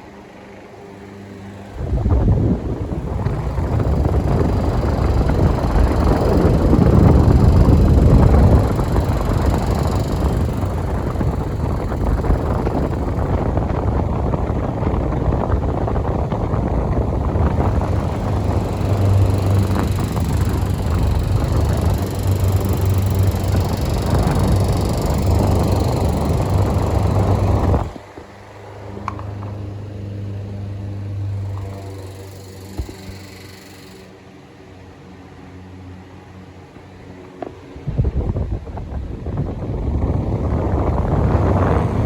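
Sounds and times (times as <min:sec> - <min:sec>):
fan airflow rushing on microphone: 0:00.0 - 0:42.0
fan motor hum: 0:00.0 - 0:42.0.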